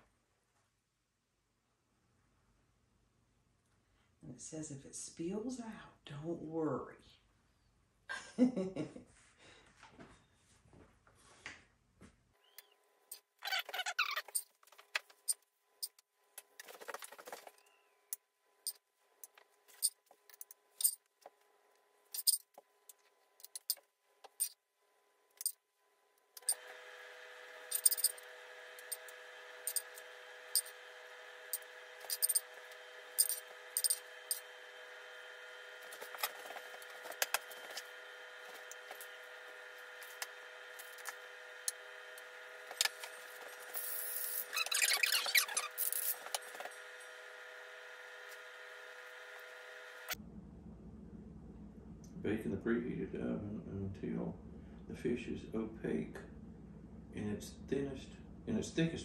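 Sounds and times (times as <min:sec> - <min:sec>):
steady hum with faint whine: 0:00.0 - 0:59.0.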